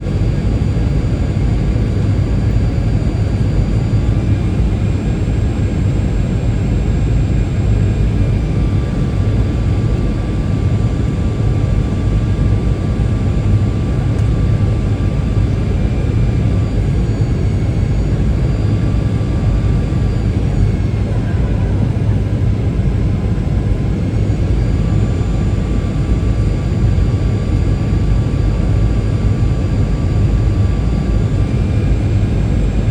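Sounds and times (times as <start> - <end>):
jet plane rumble and engine whine: 0.0 - 32.9.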